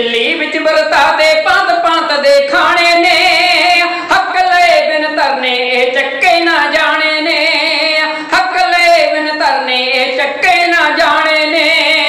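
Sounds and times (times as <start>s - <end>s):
men singing in high voices: 0.0s - 12.0s.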